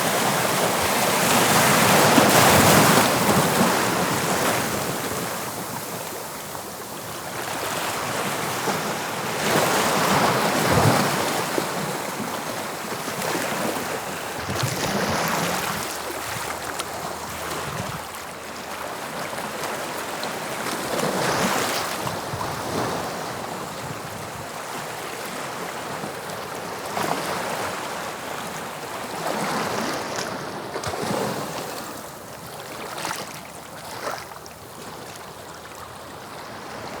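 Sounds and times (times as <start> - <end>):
sea waves breaking on shore: 0.0 - 37.0.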